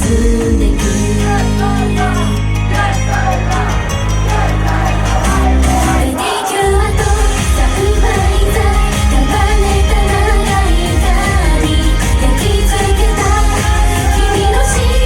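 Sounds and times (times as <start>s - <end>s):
loud backing track: 0.0s - 15.0s
pop song sung live: 0.0s - 15.0s
pulsing beat: 0.0s - 15.0s.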